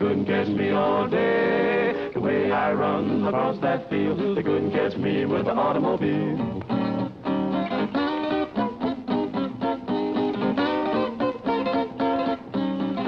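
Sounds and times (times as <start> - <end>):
guitar playing chords and notes: 0.0 - 13.0.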